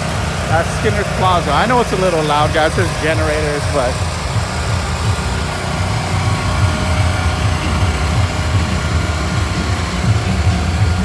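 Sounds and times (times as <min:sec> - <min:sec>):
generators droning: 0:00.0 - 0:11.0.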